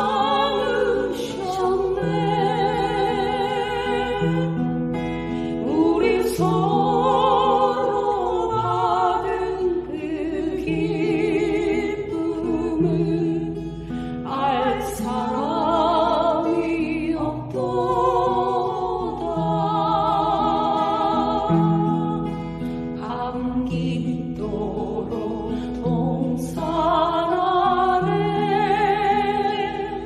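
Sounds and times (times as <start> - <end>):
person singing with vibrato: 0.0 - 30.0.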